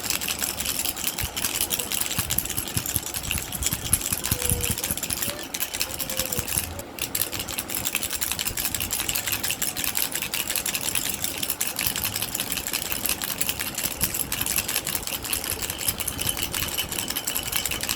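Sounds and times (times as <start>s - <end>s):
baby rattle shaken: 0.0s - 17.9s.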